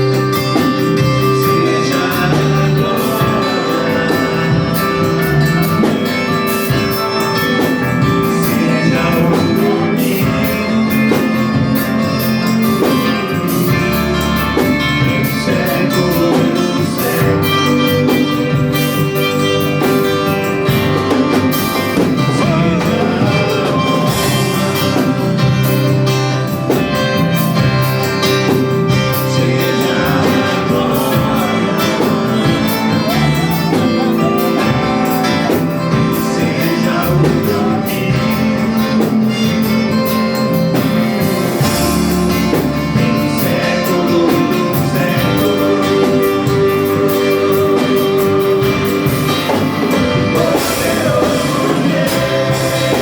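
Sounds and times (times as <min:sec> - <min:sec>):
song with guitar and singing: 0:00.0 - 0:53.0.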